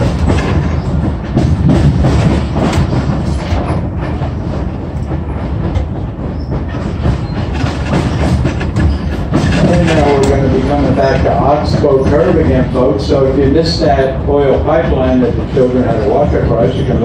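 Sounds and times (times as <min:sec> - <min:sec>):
train wheels rumbling on rail: 0:00.0 - 0:17.0
wheel clacks on track: 0:00.0 - 0:17.0.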